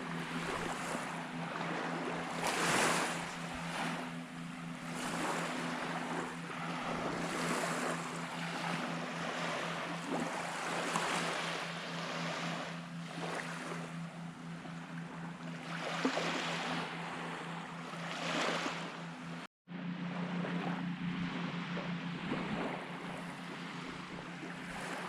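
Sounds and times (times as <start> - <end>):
small waves breaking on sand: 0.0 - 13.9, 15.5 - 19.5, 20.5 - 25.0
steady low hum: 0.0 - 25.0.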